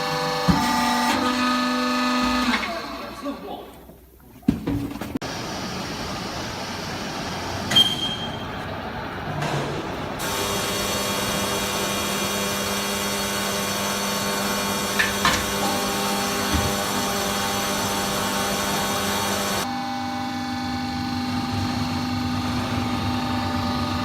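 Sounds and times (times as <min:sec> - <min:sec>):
hydraulic machine hum: 0:00.0 - 0:04.1, 0:05.2 - 0:24.0.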